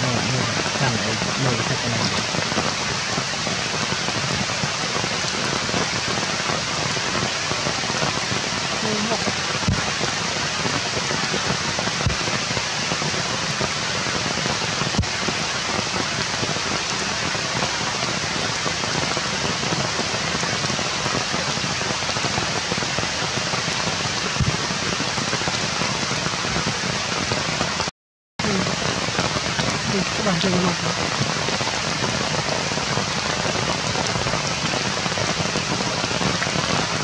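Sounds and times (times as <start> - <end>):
rain on foliage: 0.0 - 37.0.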